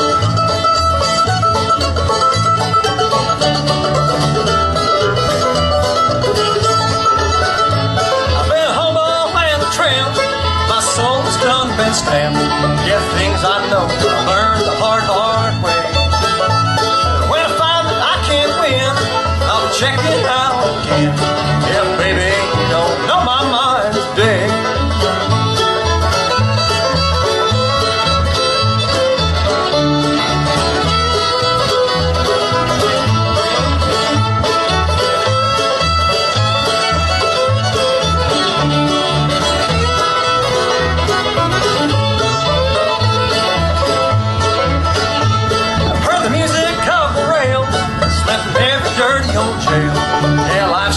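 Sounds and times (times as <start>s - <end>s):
bluegrass band playing: 0.0s - 50.9s
upright bass plucking: 0.0s - 50.9s.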